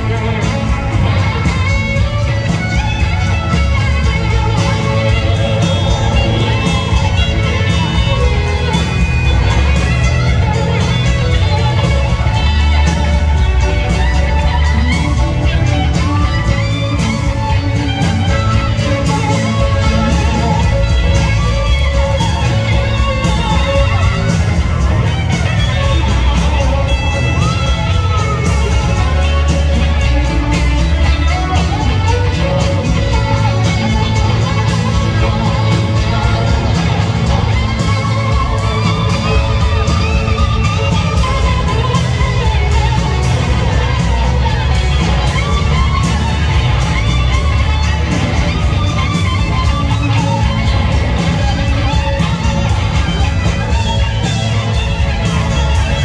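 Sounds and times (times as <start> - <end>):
rock band playing: 0.0 - 56.0
slide guitar solo: 0.0 - 56.0.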